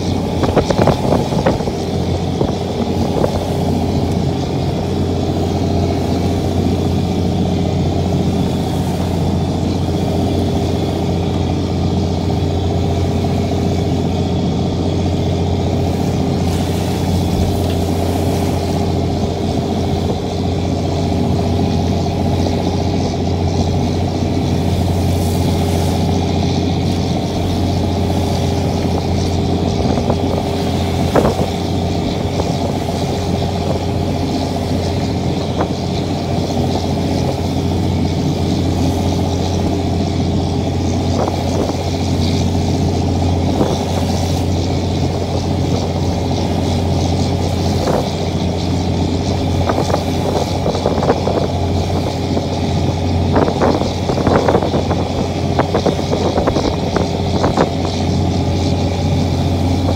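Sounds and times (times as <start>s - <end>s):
boat engine drone: 0.0s - 59.9s
water rushing along hull: 0.0s - 59.9s.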